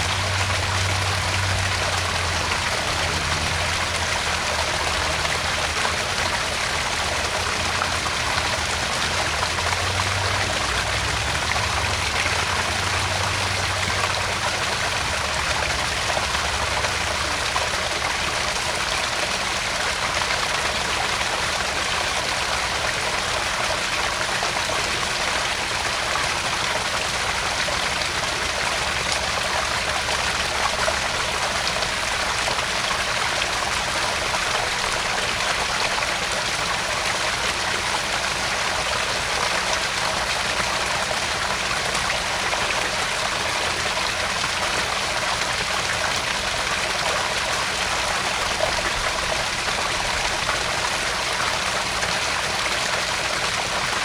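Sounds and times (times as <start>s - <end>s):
water splashing over rocks: 0.0s - 54.0s.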